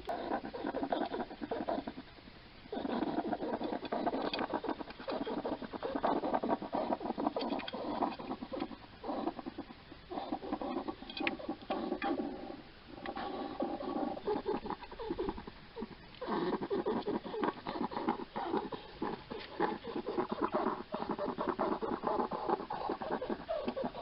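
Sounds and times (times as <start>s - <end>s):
hedgehog noisy breathing: 0.0s - 24.0s
hedgehog snuffling and chewing: 0.0s - 24.0s.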